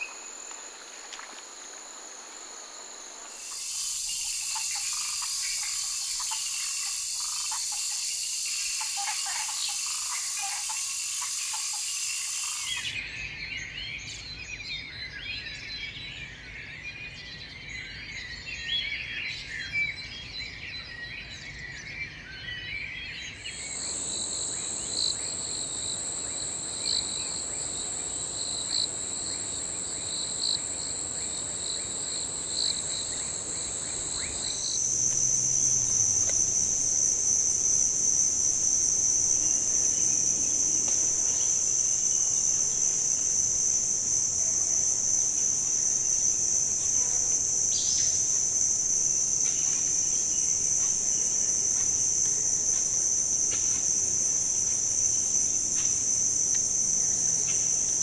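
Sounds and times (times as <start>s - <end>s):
faint pulsing insect layer: 0.0s - 13.0s, 23.2s - 58.0s
insects trilling: 0.0s - 13.0s, 23.3s - 58.0s
insect continuous whine: 0.0s - 13.2s, 13.8s - 58.0s.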